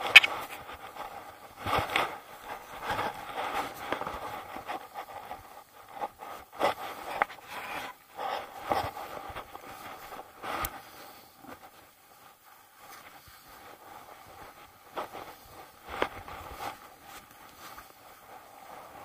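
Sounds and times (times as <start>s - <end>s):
clothing and gear rustling: 0.0s - 19.0s.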